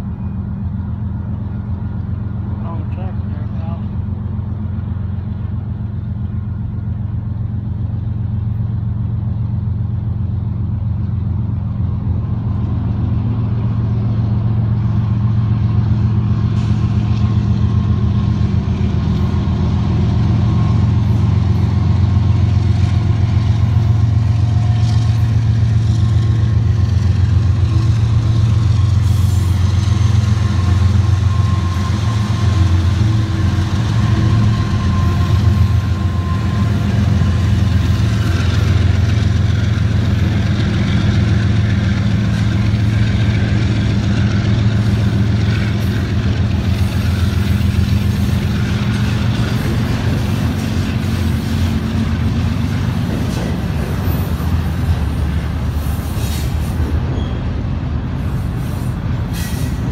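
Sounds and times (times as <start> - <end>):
diesel locomotive engines droning: 0.0 - 59.9.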